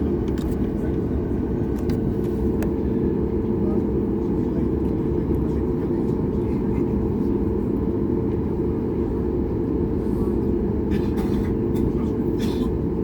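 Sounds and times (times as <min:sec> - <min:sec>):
low rumble of jet engines: 0:00.0 - 0:13.0.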